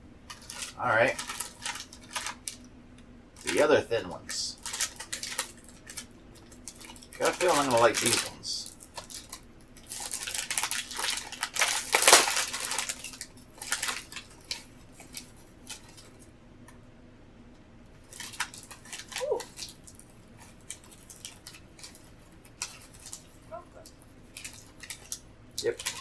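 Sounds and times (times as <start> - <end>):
plastic packaging crinkling and tearing: 0.3 - 2.7, 3.4 - 3.7, 4.5 - 16.3, 18.0 - 26.0.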